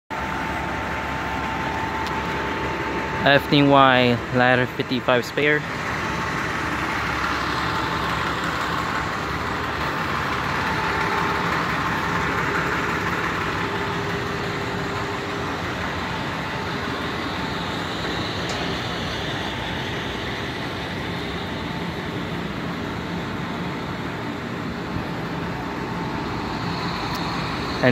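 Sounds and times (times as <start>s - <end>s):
diesel engine idling: 0.1s - 27.9s
road traffic hiss: 0.1s - 27.9s.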